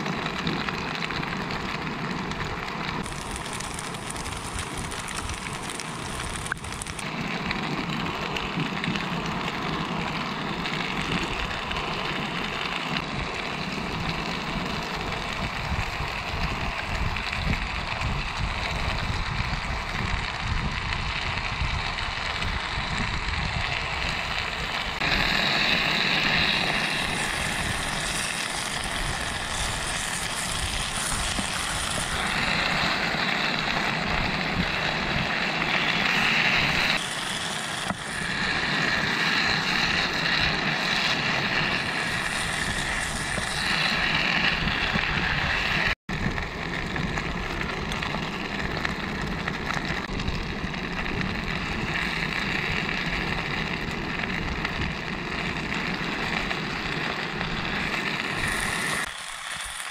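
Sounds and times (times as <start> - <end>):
food sizzling in frying pan: 0.0 - 59.9
gas burner rushing: 0.0 - 59.9.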